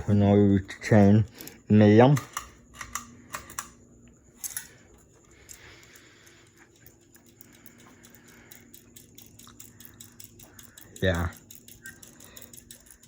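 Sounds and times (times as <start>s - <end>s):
fan motor hum: 0.0s - 13.0s.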